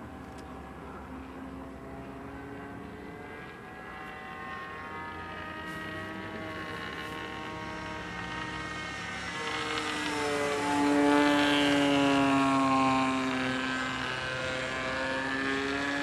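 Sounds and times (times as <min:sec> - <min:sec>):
model plane engine buzzing: 0:00.0 - 0:16.0.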